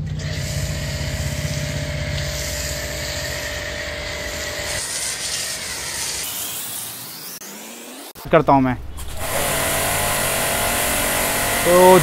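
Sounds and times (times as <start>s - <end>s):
pressure washer motor humming: 0.0s - 8.0s, 8.9s - 12.0s
foam cannon spray hissing: 0.2s - 7.9s, 9.0s - 12.0s.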